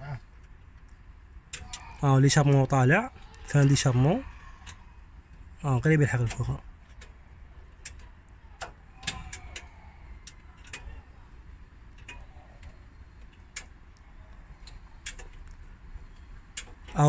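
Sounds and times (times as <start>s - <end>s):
faint metallic engine clicks: 0.0s - 17.0s.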